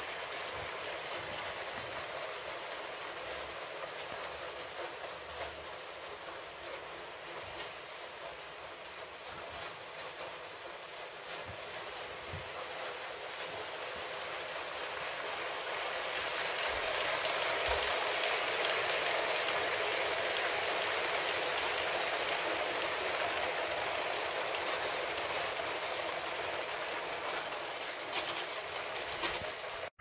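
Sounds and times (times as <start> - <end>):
toy train wheels rattling on track: 0.0 - 29.9.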